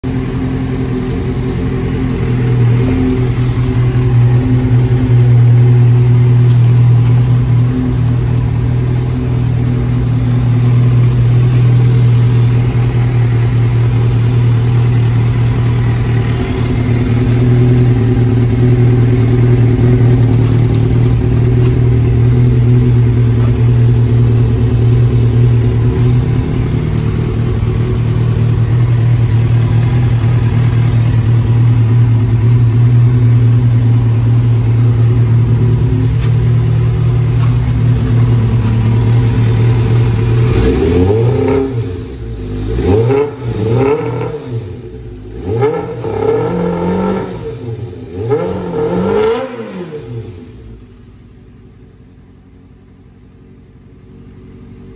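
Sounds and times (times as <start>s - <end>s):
motorcycle engine idling: 0.0s - 43.5s, 44.4s - 46.0s, 50.1s - 54.9s.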